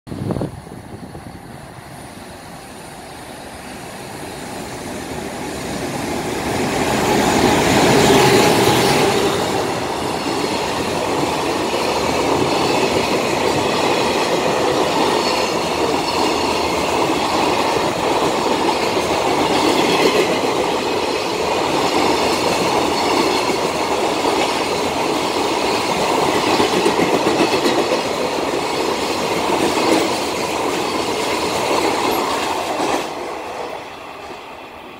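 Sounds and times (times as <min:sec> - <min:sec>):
electric locomotive passing: 0:00.1 - 0:34.9.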